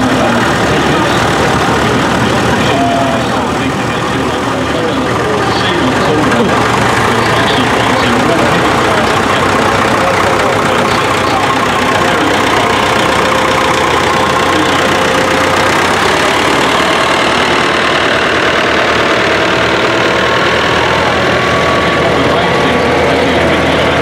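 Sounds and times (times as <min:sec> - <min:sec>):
tractor engines running: 0:00.0 - 0:24.0.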